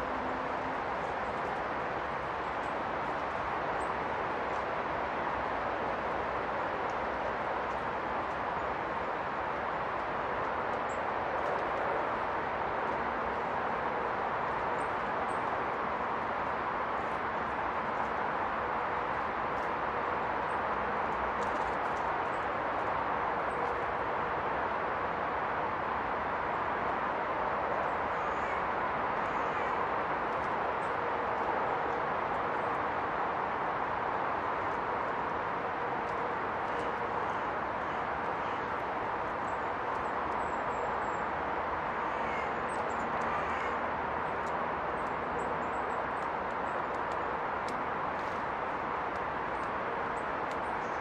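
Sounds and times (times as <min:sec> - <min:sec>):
flowing river water: 0:00.0 - 0:51.0.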